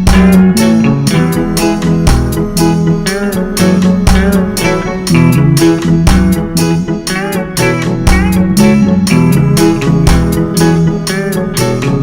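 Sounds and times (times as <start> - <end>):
instrumental reggae band music: 0.0 - 12.0.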